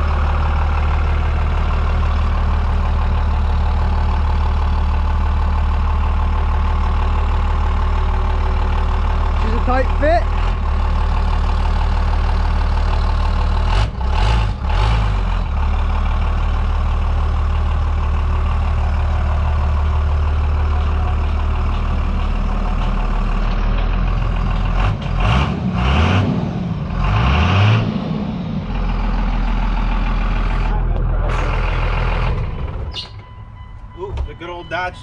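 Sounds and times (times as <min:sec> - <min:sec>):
pickup truck engine idling and revving: 0:00.0 - 0:35.0.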